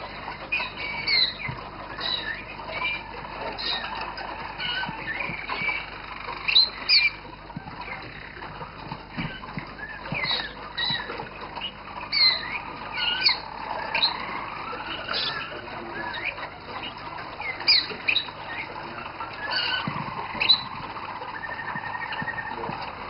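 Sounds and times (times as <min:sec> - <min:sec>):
canaries chirping and singing: 0:00.0 - 0:23.0.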